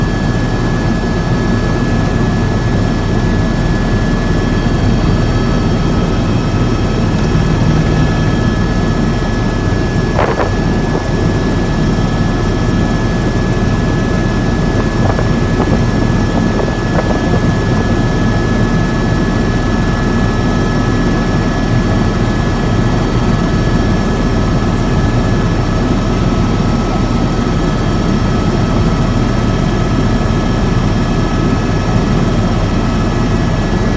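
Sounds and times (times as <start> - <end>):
helicopter rotor and turbine drone: 0.0 - 33.9.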